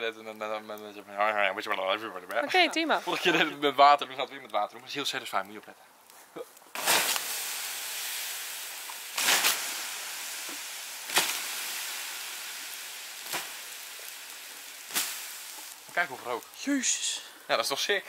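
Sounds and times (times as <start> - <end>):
embers hissing and sizzling: 0.0 - 18.0
sharp crack of fire: 0.0 - 18.0.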